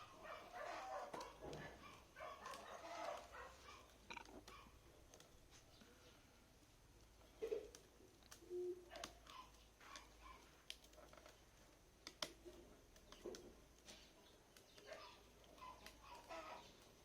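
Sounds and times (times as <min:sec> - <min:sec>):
faint clicks and taps: 0:01.1 - 0:06.0, 0:07.0 - 0:16.4.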